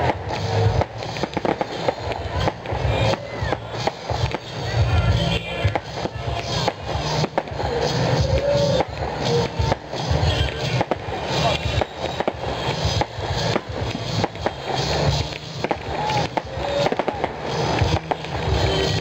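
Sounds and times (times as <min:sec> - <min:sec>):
fireworks popping and banging: 0:00.0 - 0:19.0.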